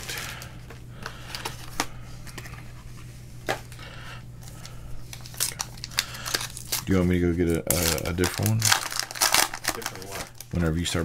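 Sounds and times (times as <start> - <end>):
cards and wrappers clicking and rustling: 0.0 - 2.7, 4.4 - 11.0
steady low hum: 0.0 - 11.0.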